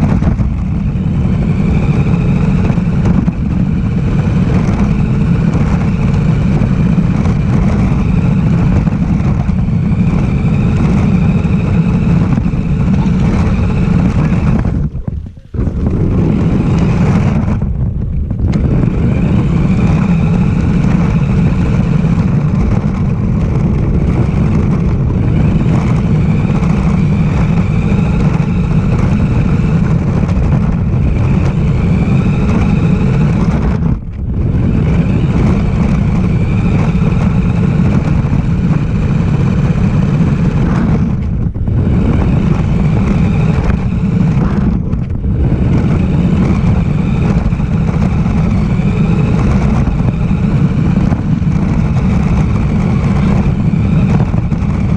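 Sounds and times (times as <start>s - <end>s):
heavy low rumble: 0.0s - 54.9s
rc car motor whine: 0.0s - 54.9s.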